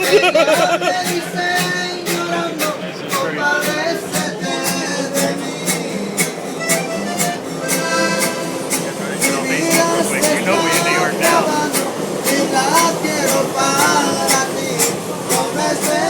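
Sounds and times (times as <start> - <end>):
accordion melody: 0.0 - 16.0
acoustic guitar strumming: 0.0 - 16.0.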